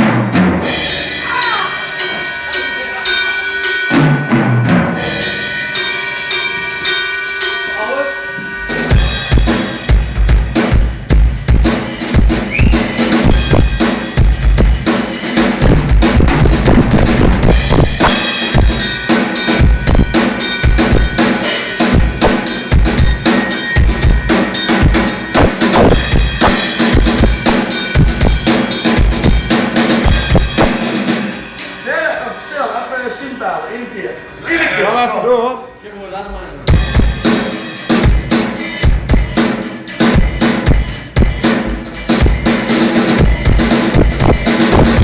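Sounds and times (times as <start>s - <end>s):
drum kit playing a steady beat: 0.0s - 33.4s, 36.7s - 45.0s.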